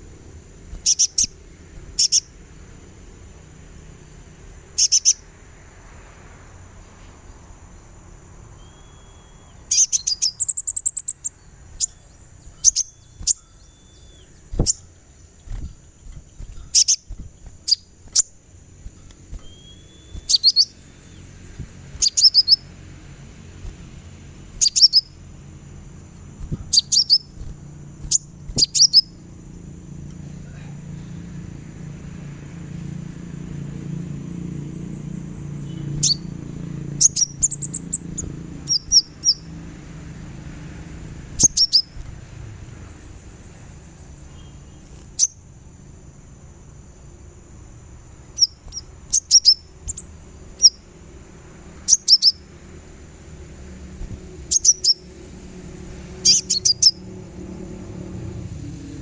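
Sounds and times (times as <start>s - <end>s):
bird chirping: 0.0s - 59.0s.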